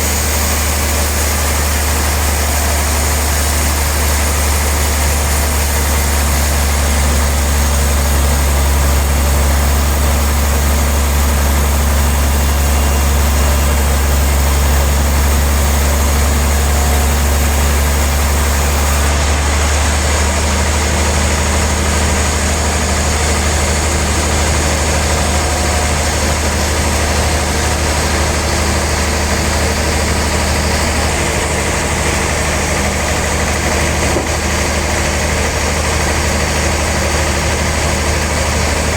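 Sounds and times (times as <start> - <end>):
saw hissing: 0.0 - 35.4
sawmill engine hum: 0.0 - 38.9.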